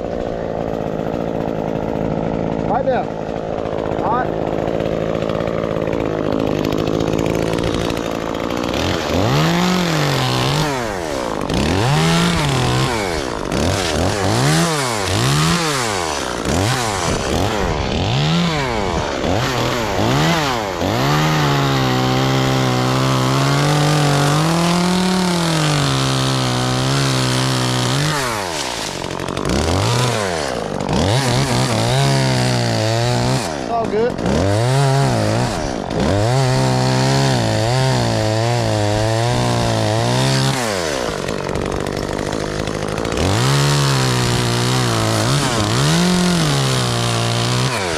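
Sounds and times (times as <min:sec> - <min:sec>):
chainsaw idling and revving: 0:00.0 - 0:47.9.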